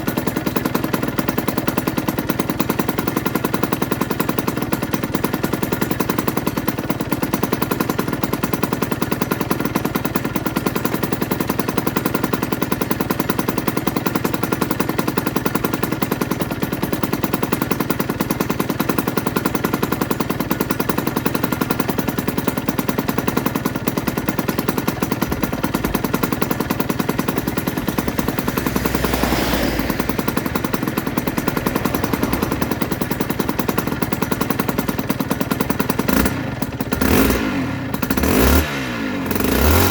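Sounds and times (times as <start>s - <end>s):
two-stroke motorcycle engine idling: 0.0s - 39.9s.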